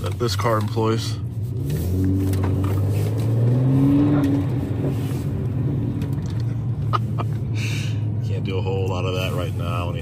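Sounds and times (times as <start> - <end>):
car engine from inside cabin: 0.0 - 10.0.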